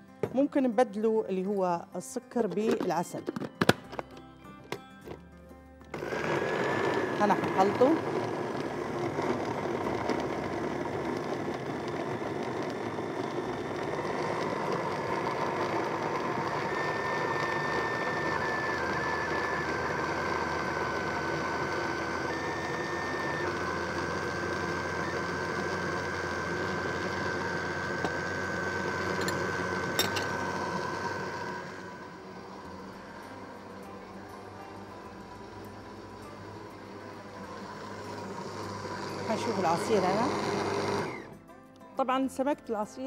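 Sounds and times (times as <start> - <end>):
blender motor whine: 5.9 - 41.4.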